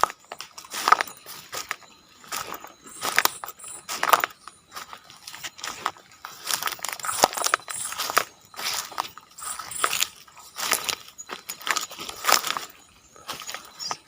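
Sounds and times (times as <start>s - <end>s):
footsteps crunching through dry leaves: 0.0s - 14.0s.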